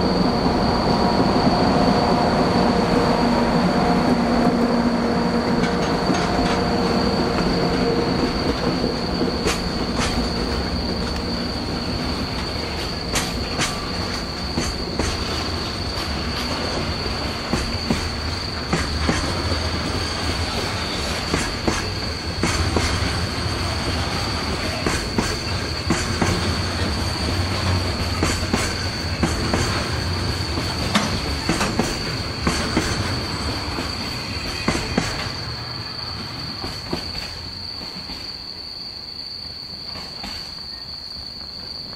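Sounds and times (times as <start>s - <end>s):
train wheels clattering over rail joints: 5.4s - 38.4s, 39.8s - 40.6s.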